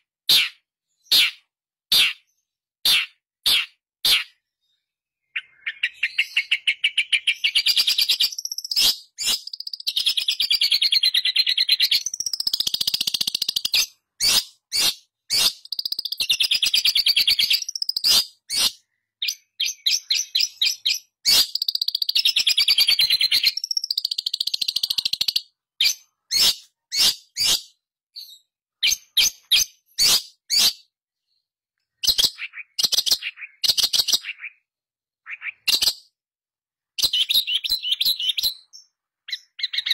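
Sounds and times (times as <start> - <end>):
bird chattering song: 0.0 - 36.2, 36.8 - 39.9
sharp bird calls: 0.0 - 36.2, 36.8 - 39.9.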